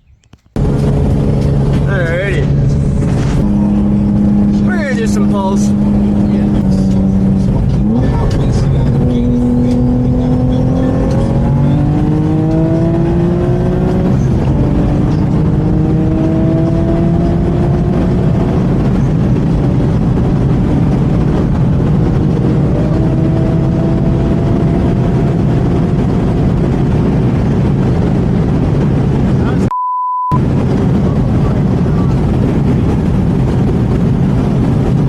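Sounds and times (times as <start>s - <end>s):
car engine accelerating hard: 0.5s - 29.7s, 30.3s - 35.0s.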